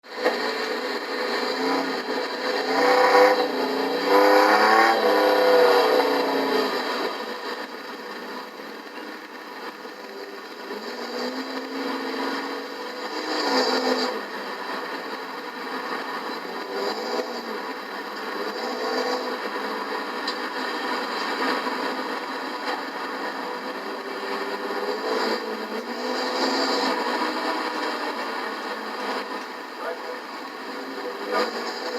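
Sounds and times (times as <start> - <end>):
racing truck engines passing: 0.0 - 31.9.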